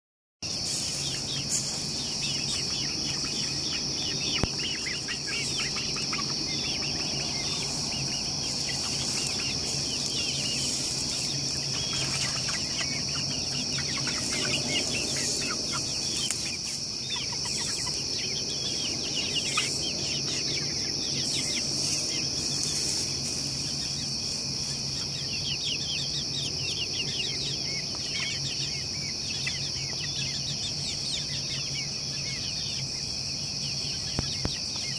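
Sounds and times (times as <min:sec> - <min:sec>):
chicks peeping and trilling: 0:00.4 - 0:34.9.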